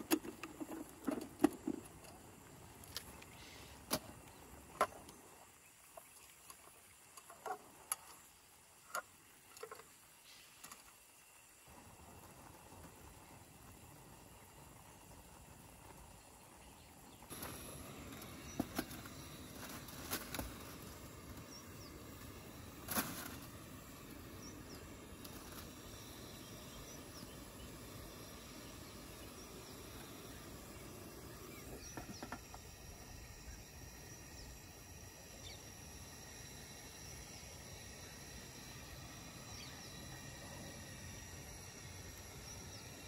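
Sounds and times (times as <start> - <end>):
insects: 0.0 - 43.0
steady low hiss: 0.0 - 43.0.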